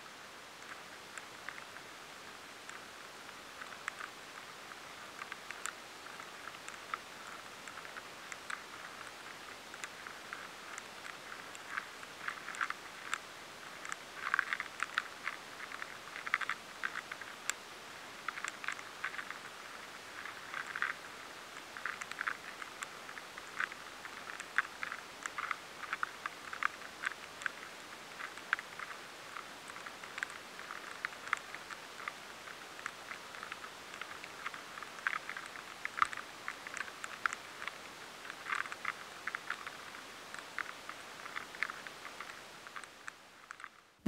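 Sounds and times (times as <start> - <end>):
steady hiss: 0.0 - 44.0
tiny scraping clicks: 2.6 - 43.9.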